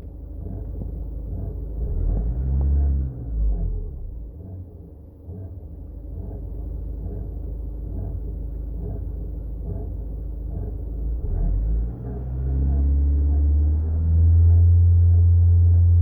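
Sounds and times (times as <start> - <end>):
faint repeating engine noise: 0.0 - 13.6
car engine idling: 0.0 - 16.0.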